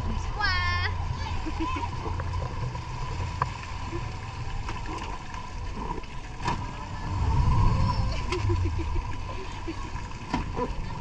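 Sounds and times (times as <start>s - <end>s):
outboard motor rumbling: 0.0s - 11.0s
water noise: 0.0s - 11.0s
wind: 0.0s - 11.0s.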